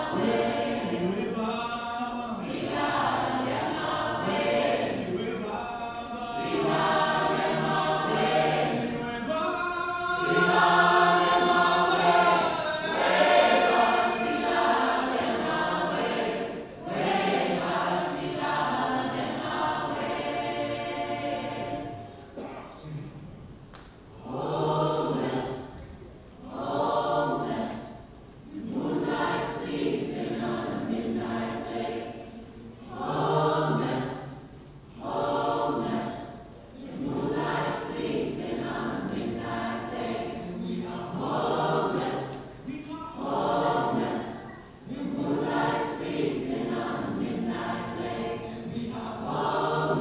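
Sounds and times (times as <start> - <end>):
mixed choir singing a cappella: 0.0 - 23.0, 24.1 - 50.0.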